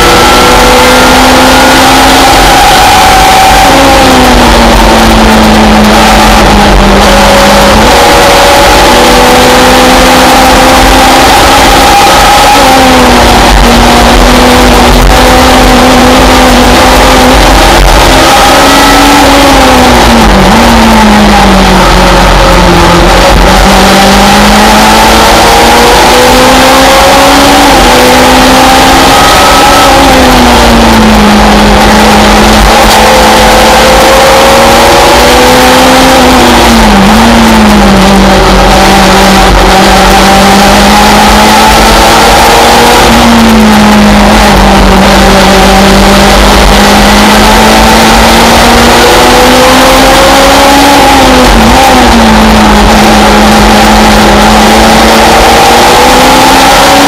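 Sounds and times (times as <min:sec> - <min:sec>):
race car engine running hard: 0:00.0 - 0:57.0
wind and road noise: 0:00.0 - 0:57.0.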